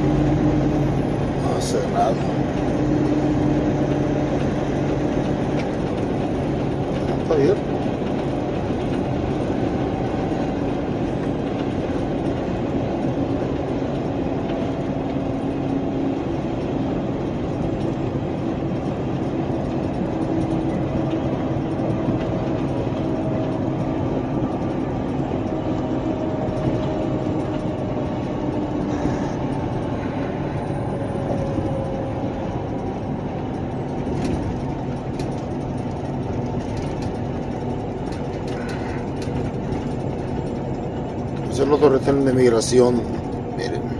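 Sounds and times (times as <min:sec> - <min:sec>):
engine drone and road noise: 0:00.0 - 0:43.9.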